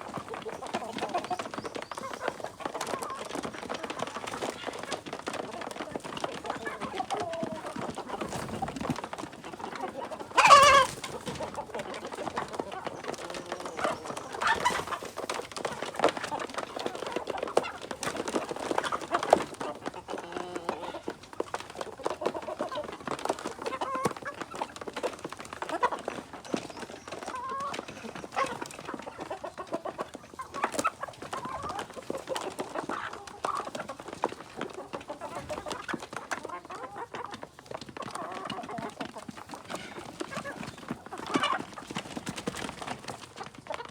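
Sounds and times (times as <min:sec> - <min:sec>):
chickens clucking and calling: 0:00.0 - 0:43.9.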